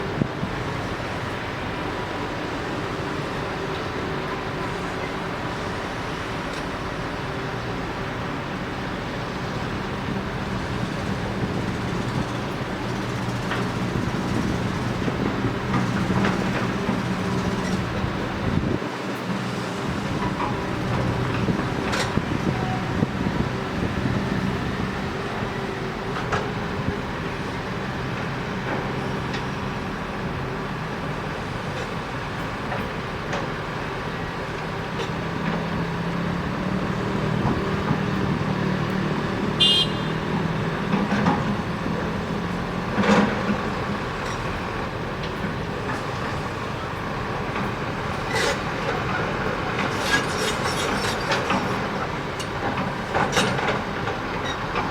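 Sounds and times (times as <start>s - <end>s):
diesel excavator engine running: 0.0s - 54.9s.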